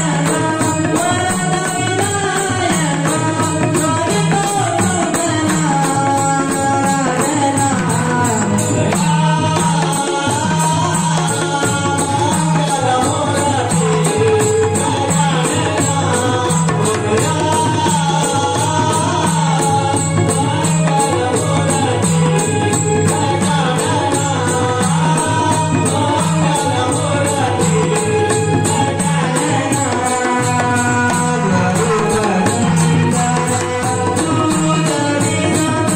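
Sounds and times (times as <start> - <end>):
hand drums playing rhythm: 0.0 - 35.9
person singing: 0.0 - 35.9.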